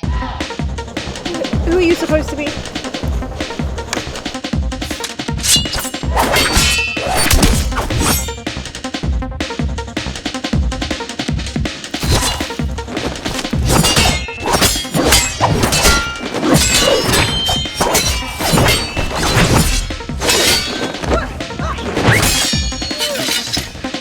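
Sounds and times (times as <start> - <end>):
sword clashes and swishes: 1.0 - 8.4, 11.9 - 24.0.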